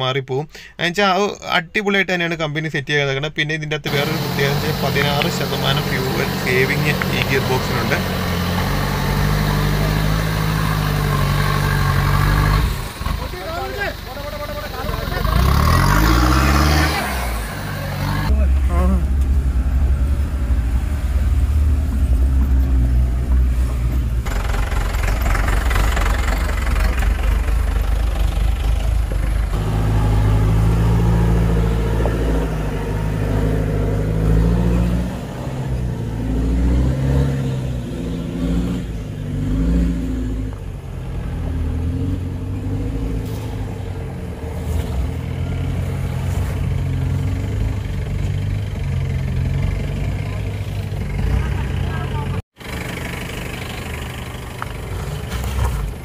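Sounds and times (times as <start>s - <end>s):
vehicle engine revving: 3.9s - 56.0s.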